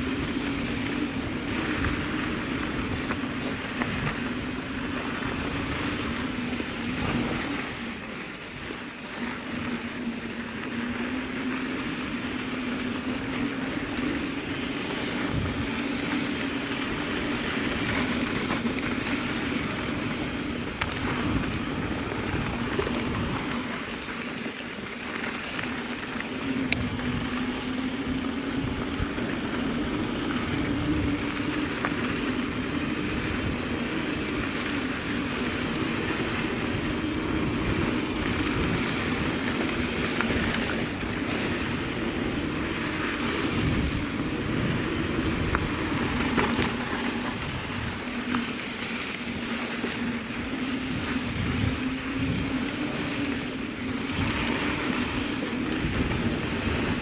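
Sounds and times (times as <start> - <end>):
wind on microphone: 0.0 - 8.1, 14.1 - 24.2, 25.7 - 57.0
bike tyre and drivetrain noise: 0.0 - 57.0
small rattles and clicks: 0.0 - 57.0.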